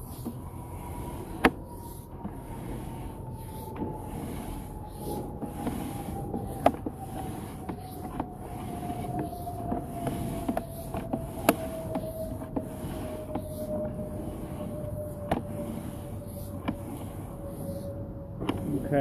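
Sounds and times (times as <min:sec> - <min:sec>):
cable pulled through pipe: 0:00.0 - 0:19.0.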